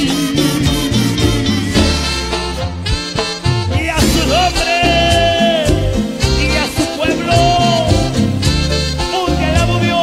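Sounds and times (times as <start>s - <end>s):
bass: 0.0s - 10.0s
drums beat: 0.0s - 10.0s
saxophones playing melody: 0.0s - 10.0s.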